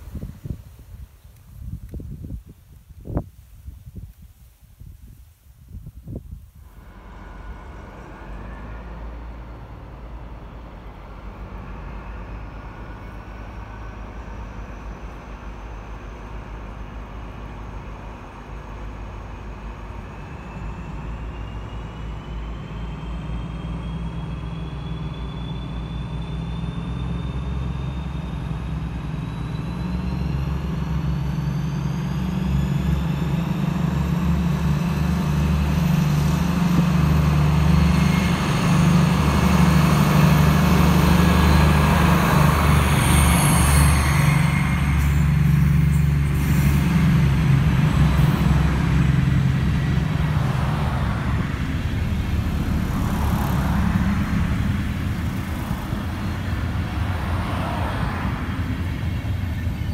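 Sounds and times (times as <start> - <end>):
deep diesel engine drone: 6.1 - 59.9
high whine rising in pitch: 6.6 - 59.9.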